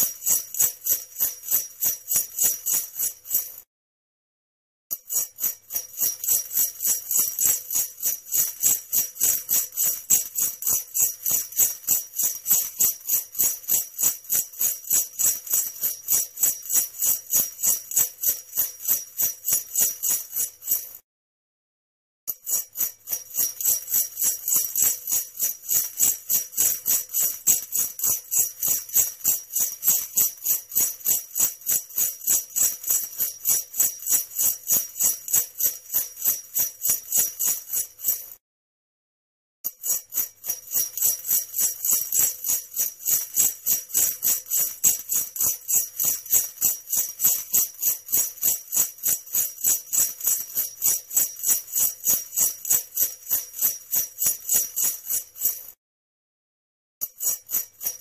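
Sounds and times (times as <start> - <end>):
sleigh bells jingling: 0.0 - 3.6, 4.9 - 21.0, 22.3 - 38.4, 39.7 - 55.8, 57.0 - 58.0.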